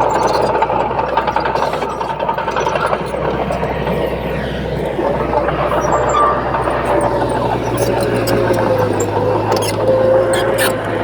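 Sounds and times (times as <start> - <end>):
heavy machinery engine hum: 0.0 - 11.0
machinery clatter: 0.0 - 11.0.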